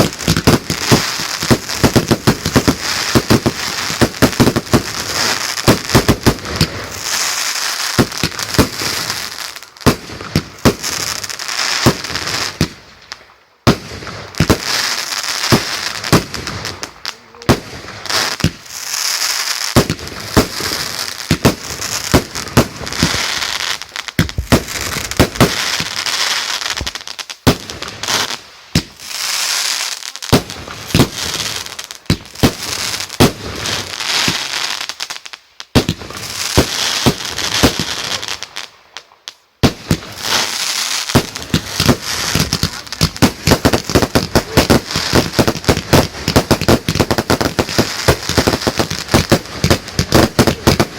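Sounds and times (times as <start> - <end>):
firework bangs: 0.0 - 35.0, 35.7 - 38.7, 39.6 - 50.9
firework crackling: 0.0 - 50.9.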